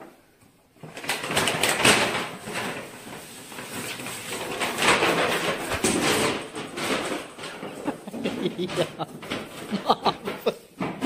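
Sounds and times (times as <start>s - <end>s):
box scraping on tiled floor: 0.8s - 11.0s.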